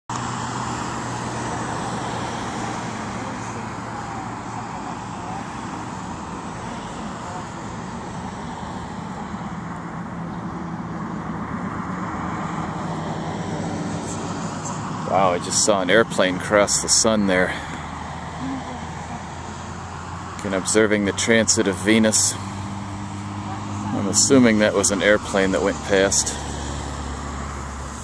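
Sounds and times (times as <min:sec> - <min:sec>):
road traffic hiss and rumble: 0:00.1 - 0:28.0.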